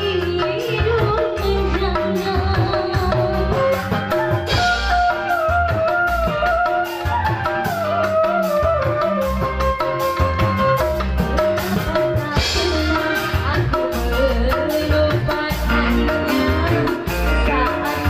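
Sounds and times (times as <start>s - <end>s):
hand drums: 0.0s - 18.0s
steady low drum beat: 0.0s - 18.0s.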